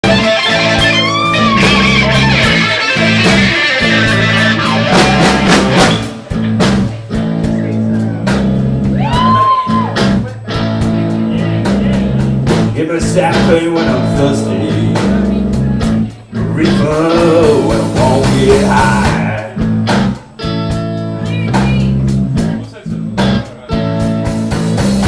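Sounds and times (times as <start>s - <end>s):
bass guitar: 0.0s - 25.0s
drum kit: 0.0s - 25.0s
electric guitar bending notes: 0.0s - 25.0s.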